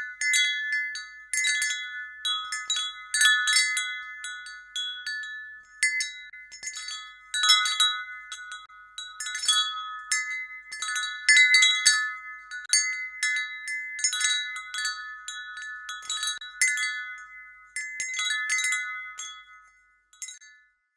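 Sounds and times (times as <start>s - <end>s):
wind chimes ringing: 0.0s - 20.8s.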